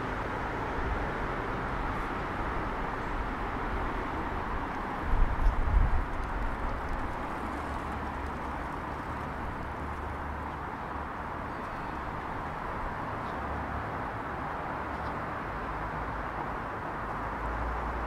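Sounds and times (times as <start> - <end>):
distant traffic hum: 0.0 - 18.0.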